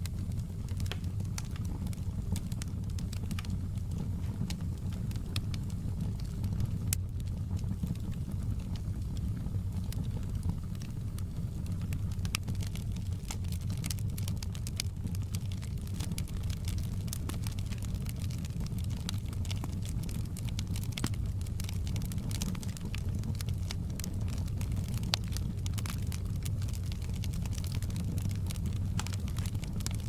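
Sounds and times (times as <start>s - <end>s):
fire crackling: 0.0s - 30.0s
fire pops and snaps: 0.0s - 30.0s.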